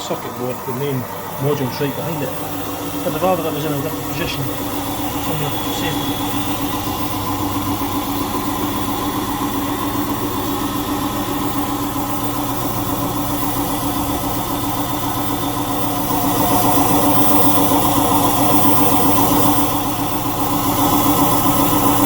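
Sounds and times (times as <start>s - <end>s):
washing machine motor humming: 0.0s - 22.0s.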